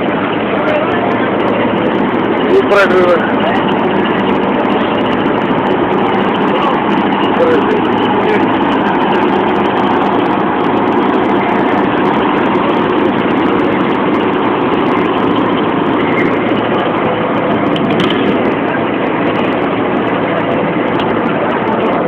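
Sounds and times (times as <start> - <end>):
boat engine running: 0.0 - 22.0
rushing noise: 0.0 - 22.0.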